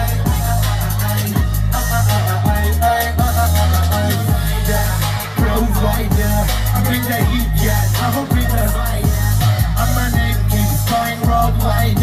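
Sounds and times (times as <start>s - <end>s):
hip-hop music over loudspeakers: 0.0s - 12.0s
man rapping into a microphone: 0.0s - 12.0s.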